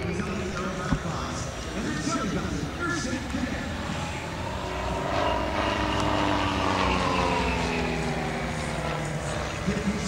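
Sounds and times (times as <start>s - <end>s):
propeller plane flying past: 0.0s - 10.0s.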